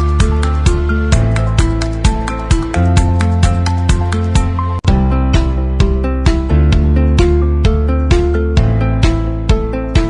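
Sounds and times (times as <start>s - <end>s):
sustained bass: 0.0s - 10.0s.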